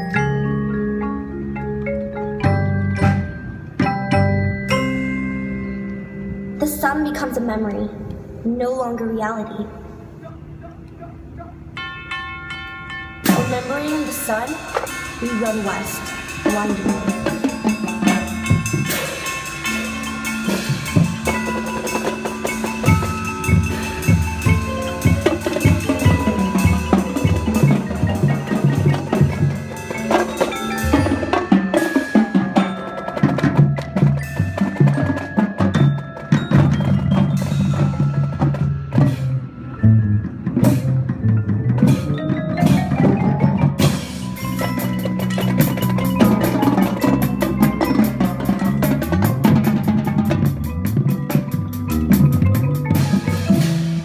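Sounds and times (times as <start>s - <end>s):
chimes: 0.0s - 7.4s, 11.7s - 38.5s, 41.4s - 54.0s
drums: 0.0s - 54.0s
marimba and mallet keyboards: 0.0s - 54.0s
cymbals: 10.0s - 41.1s, 41.8s - 54.0s.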